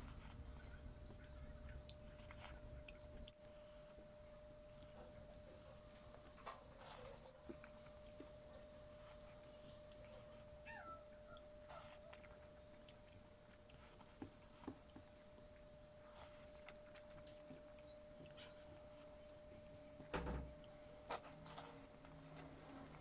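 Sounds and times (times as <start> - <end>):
thin steady hum: 0.0 - 23.0.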